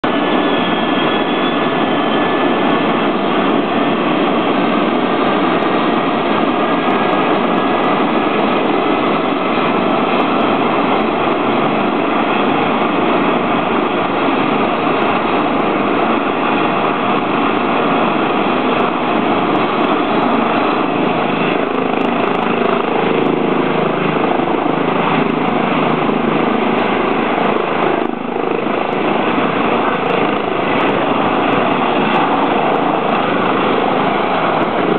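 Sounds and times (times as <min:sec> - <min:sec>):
helicopter rotor and turbine roar: 0:00.0 - 0:34.9
high turbine whine: 0:00.0 - 0:34.9.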